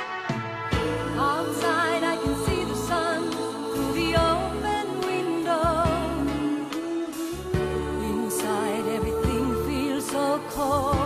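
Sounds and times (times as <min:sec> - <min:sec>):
slow instrumental pop ballad: 0:00.0 - 0:11.0.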